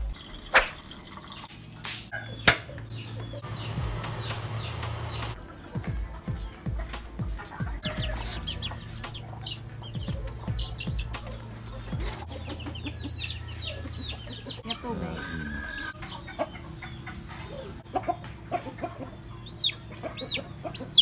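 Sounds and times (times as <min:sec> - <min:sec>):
chicks peeping: 0:02.1 - 0:21.0.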